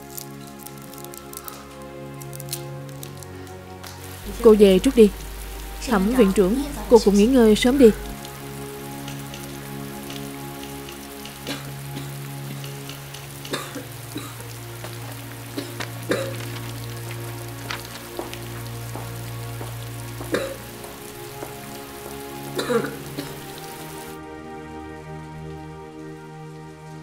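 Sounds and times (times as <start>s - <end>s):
water drips and splashes: 0.0s - 26.1s
soft background music: 0.0s - 27.0s
steady rain falling: 0.0s - 27.0s.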